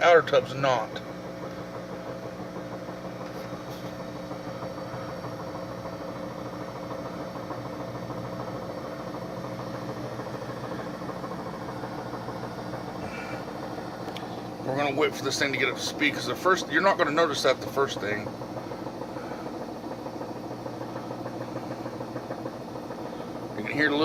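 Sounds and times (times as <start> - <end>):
washing machine motor humming: 0.0 - 24.0.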